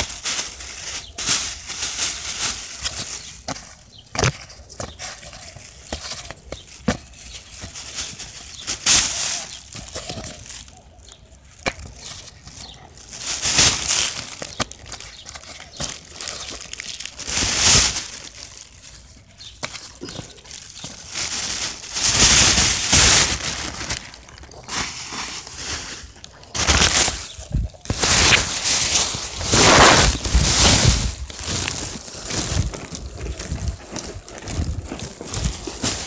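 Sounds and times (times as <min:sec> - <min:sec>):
close rustling and rubbing: 0:00.0 - 0:36.0.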